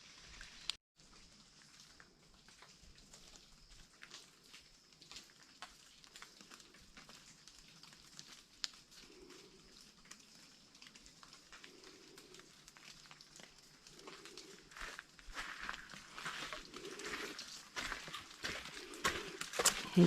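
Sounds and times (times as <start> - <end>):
raindrops ticking: 0.4 - 20.0.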